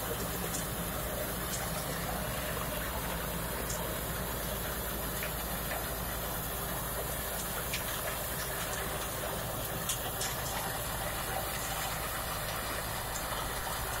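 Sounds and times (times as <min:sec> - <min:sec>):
rotary mulcher shredding: 0:00.0 - 0:14.0
tractor engine running: 0:00.0 - 0:14.0.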